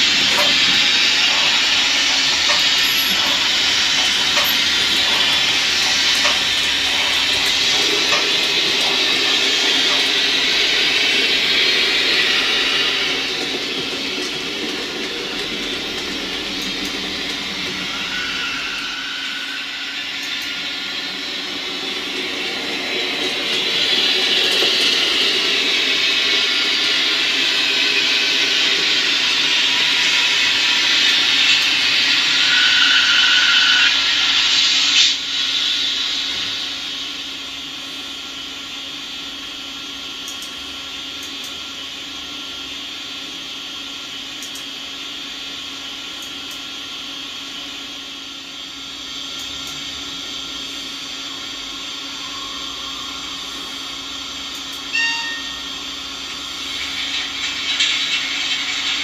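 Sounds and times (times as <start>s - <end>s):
model train whirring on track: 0.0s - 59.0s.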